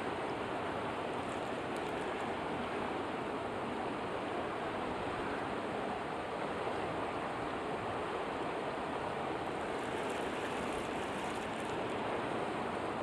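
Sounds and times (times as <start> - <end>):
creek water rushing over rapids: 0.0 - 13.0.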